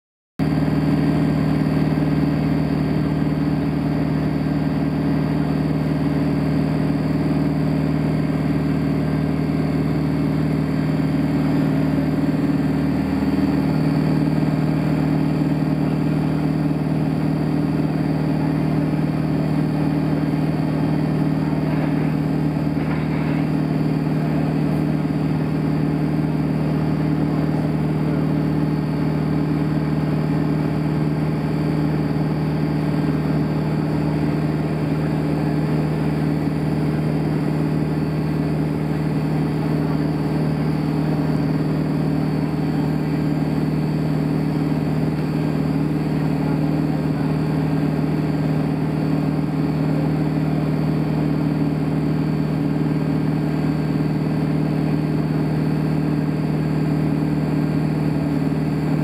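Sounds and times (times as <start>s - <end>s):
aircraft engine hum: 0.4s - 59.0s.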